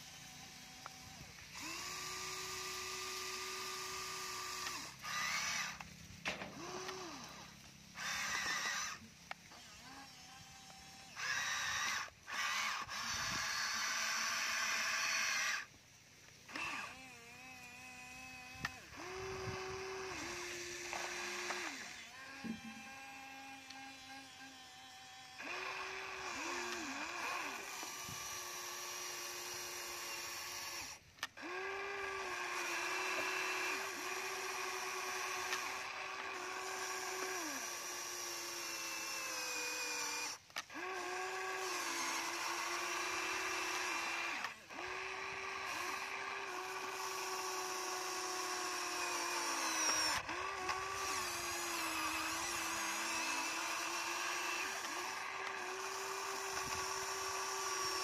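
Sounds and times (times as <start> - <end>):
toy excavator motors whining: 0.0 - 58.0.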